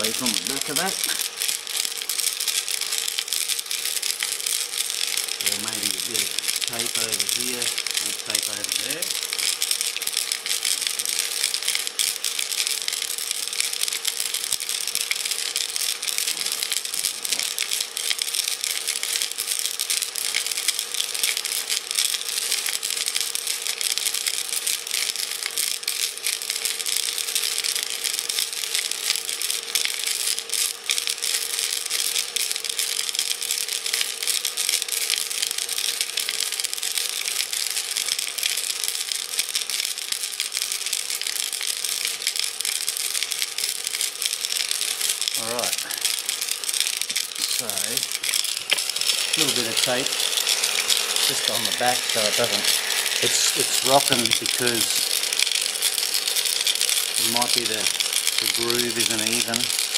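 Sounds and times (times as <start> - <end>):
bolts and rock rattling in glass jar: 0.0 - 59.9
cordless drill humming: 0.0 - 59.9.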